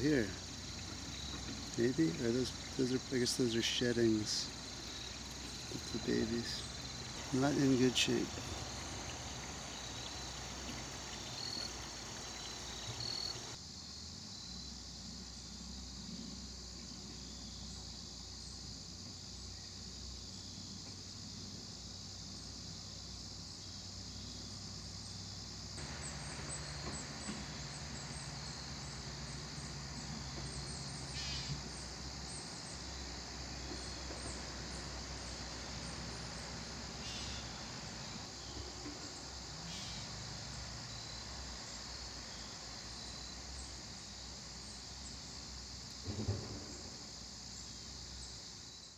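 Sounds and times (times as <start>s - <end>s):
crickets and insects chorus: 0.0s - 48.9s.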